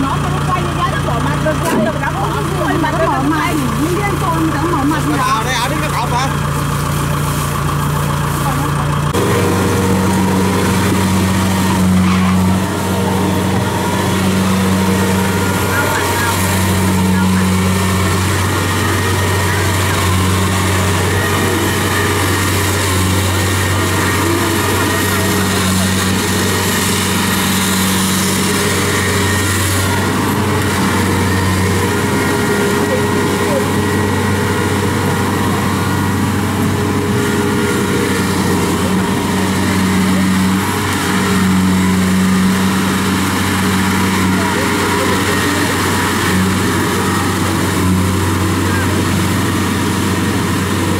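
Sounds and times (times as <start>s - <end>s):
combine harvester droning: 0.0s - 50.9s
diesel engine running: 0.0s - 50.9s.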